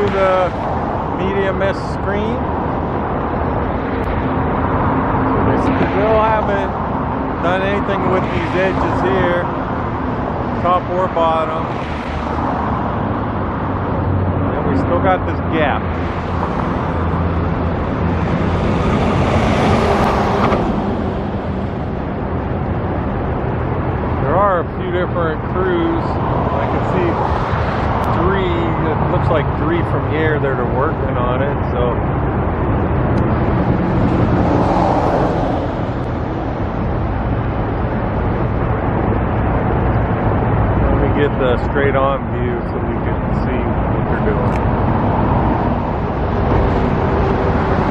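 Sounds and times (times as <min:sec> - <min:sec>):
traffic rumble: 0:00.0 - 0:47.9
vehicle passing: 0:00.0 - 0:47.9.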